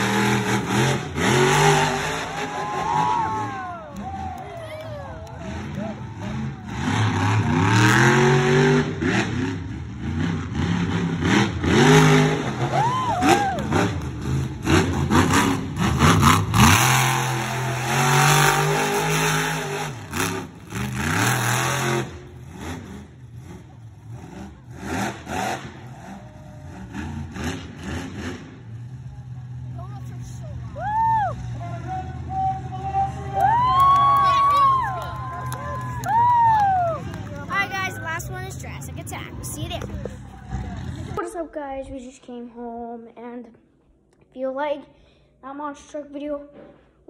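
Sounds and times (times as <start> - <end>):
truck engine revving: 0.0 - 41.2.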